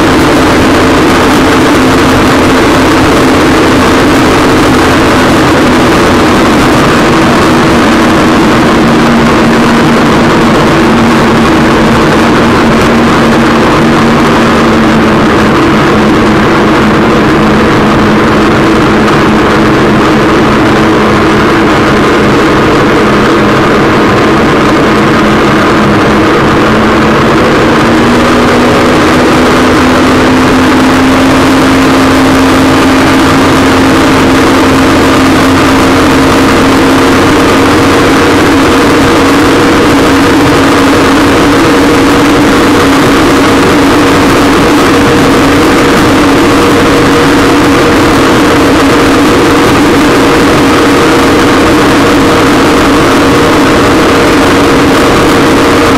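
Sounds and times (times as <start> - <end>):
loud rushing noise: 0.0 - 55.9
watercraft engine running: 0.0 - 55.9.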